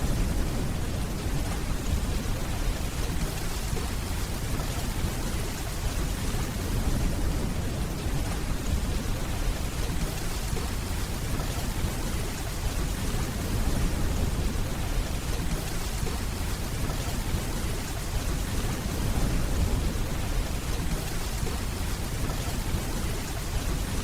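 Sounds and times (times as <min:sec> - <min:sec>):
steady rainfall: 0:00.0 - 0:24.0.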